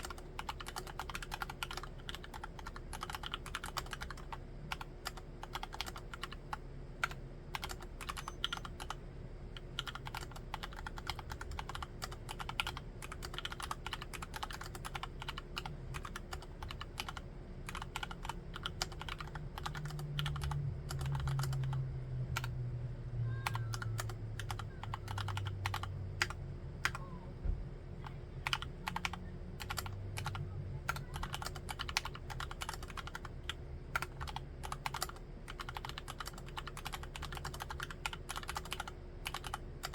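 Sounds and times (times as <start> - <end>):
typing on a keyboard: 0.0 - 9.0, 9.6 - 21.8, 23.4 - 27.0, 28.4 - 39.9.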